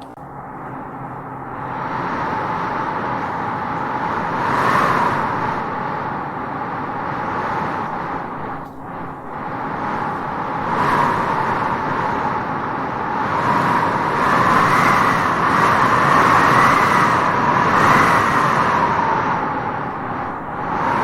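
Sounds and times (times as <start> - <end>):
wind gusting through grass: 0.3 - 21.0.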